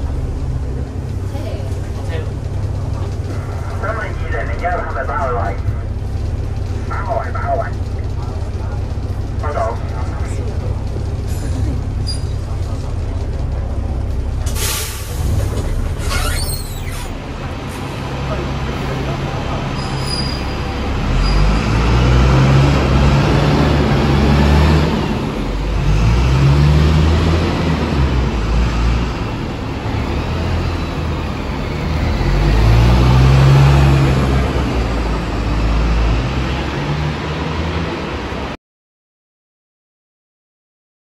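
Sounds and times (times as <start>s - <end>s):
bus diesel engine accelerating: 0.0s - 38.6s
road noise: 0.0s - 38.6s.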